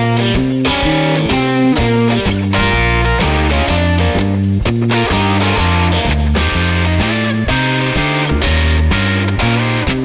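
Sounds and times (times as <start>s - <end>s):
guitar-led rock music: 0.0s - 10.0s.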